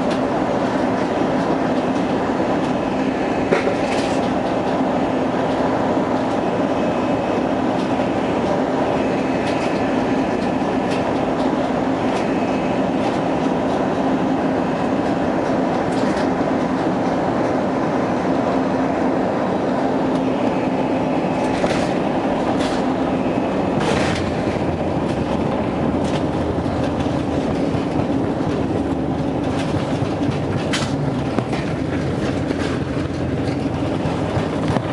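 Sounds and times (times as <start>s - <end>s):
engine and cabin air hum: 0.0s - 34.9s.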